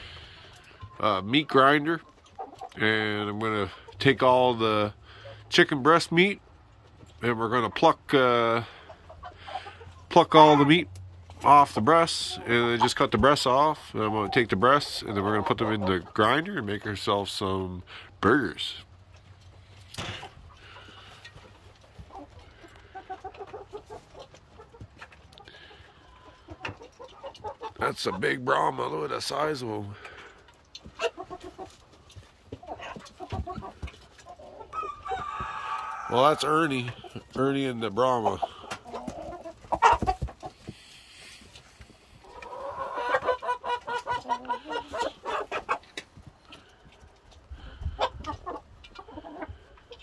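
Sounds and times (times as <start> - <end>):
roosters clucking: 0.0 - 50.0.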